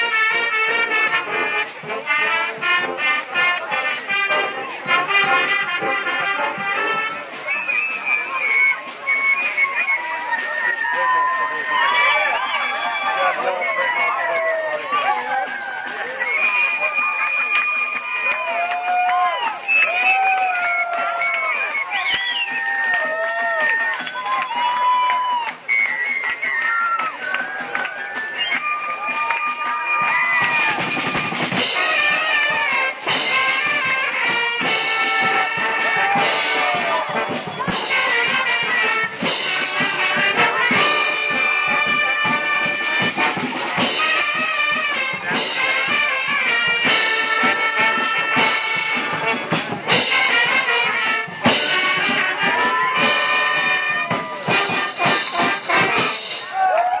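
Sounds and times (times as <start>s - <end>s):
marching band playing: 0.0s - 57.0s.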